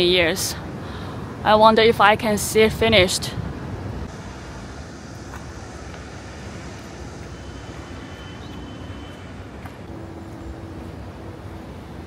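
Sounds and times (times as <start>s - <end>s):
distant traffic rumble: 0.0s - 12.0s.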